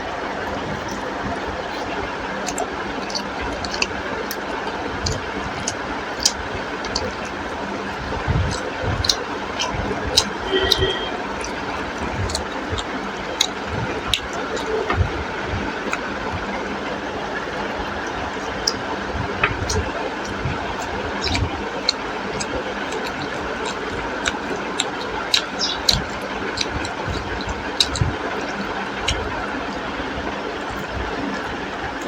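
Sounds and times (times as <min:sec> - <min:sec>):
steady background noise: 0:00.0 - 0:32.0
chewing clicks and smacks: 0:00.7 - 0:15.1, 0:15.8 - 0:16.4, 0:17.5 - 0:29.8.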